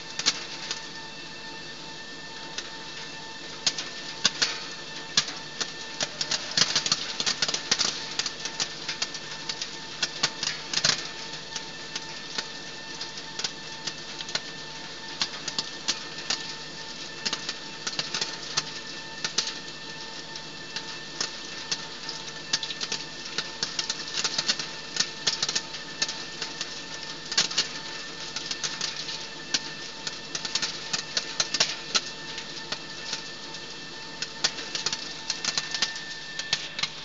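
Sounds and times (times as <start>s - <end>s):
machine hum with high whine: 0.0s - 37.0s.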